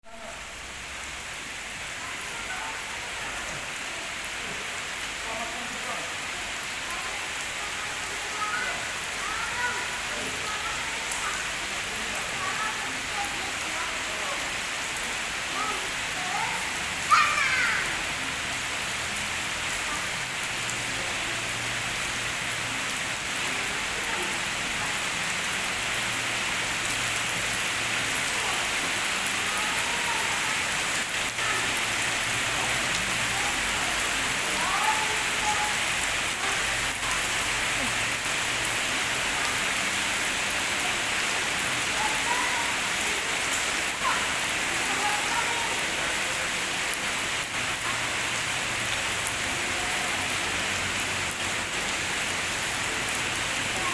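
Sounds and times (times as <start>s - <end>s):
rain on water surface: 0.0s - 53.9s.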